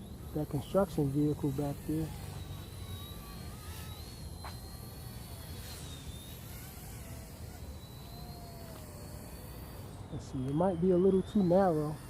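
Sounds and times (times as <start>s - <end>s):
rc helicopter motor whining: 0.0s - 12.0s.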